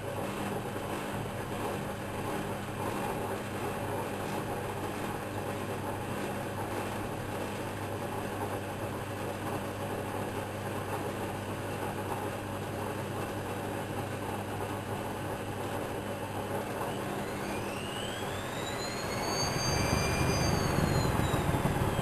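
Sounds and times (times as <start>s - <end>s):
washing machine running: 0.0s - 22.0s.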